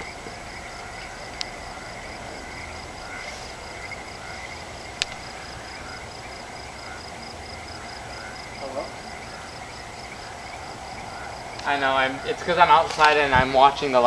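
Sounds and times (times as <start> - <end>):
short low frog calls: 0.0 - 12.4.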